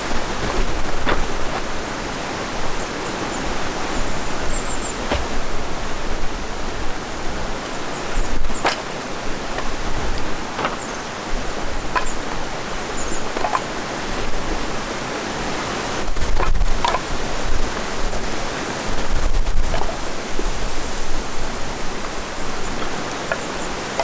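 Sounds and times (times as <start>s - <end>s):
wind rumble on microphone: 0.0s - 23.9s.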